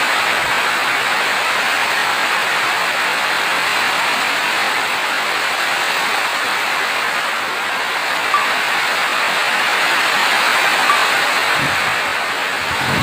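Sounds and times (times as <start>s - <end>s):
dense rain falling: 0.0s - 13.0s.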